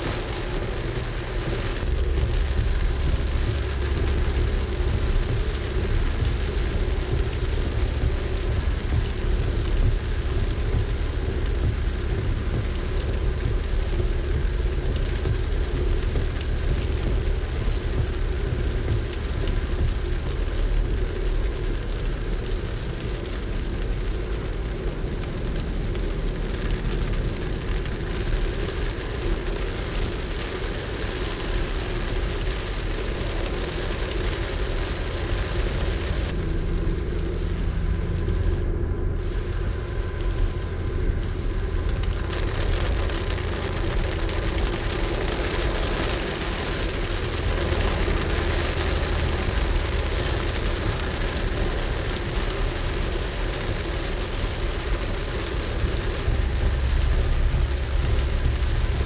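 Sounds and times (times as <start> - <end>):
car road and engine rumble: 0.0 - 59.0
rain hissing on car: 0.0 - 59.0.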